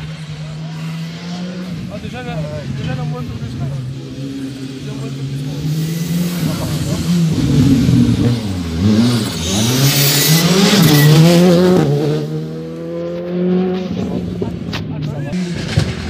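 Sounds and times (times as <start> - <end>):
car passing rush: 0.0 - 16.0
rally car engine revving: 0.0 - 16.0.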